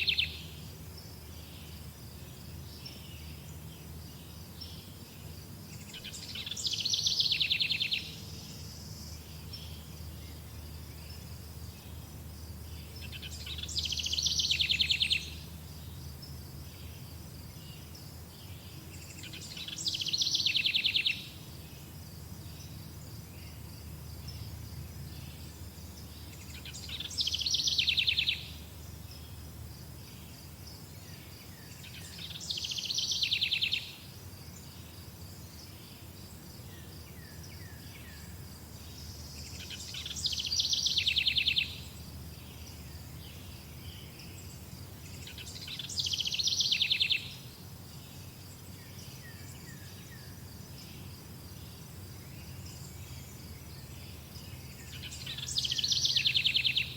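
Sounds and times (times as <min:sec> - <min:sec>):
insects chirring: 0:00.0 - 0:56.9
songbird singing with trill: 0:00.0 - 0:56.9.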